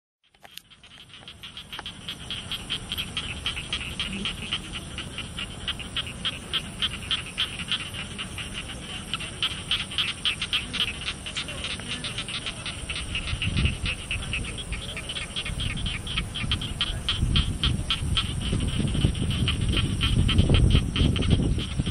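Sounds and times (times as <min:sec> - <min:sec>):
fast regular chirping: 0:00.2 - 0:21.9
high-pitched insect drone: 0:00.3 - 0:21.9.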